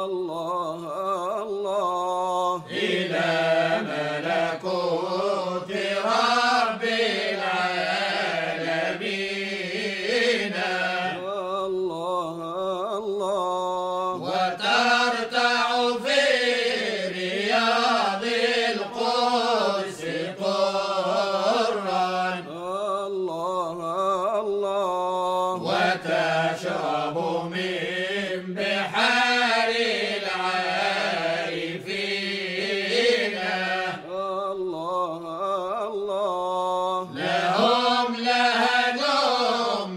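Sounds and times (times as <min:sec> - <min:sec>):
choir singing ornamented melody: 0:00.0 - 0:39.9.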